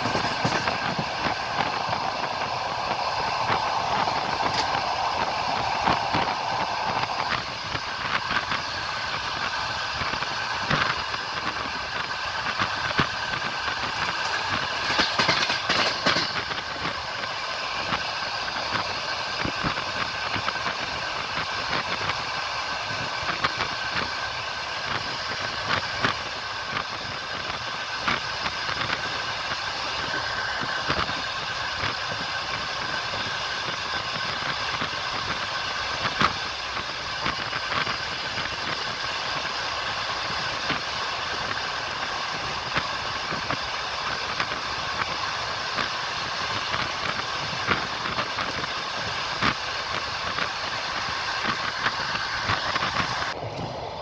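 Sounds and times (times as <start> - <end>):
train wheels rolling on rails: 0.0 - 54.0
wheels clicking over rail joints: 0.0 - 54.0.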